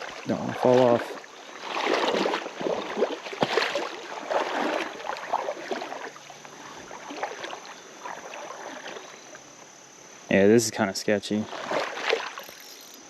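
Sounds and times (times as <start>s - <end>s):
creek water rushing: 0.0s - 9.6s, 11.4s - 12.6s
water sloshing and splashing: 0.0s - 9.6s, 11.3s - 12.9s.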